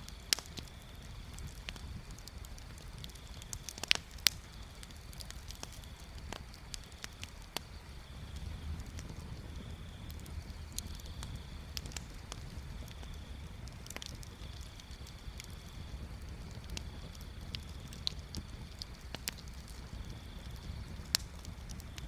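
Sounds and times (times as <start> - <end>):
bonfire crackling and popping: 0.0 - 22.0
low steady rumble: 0.0 - 22.0.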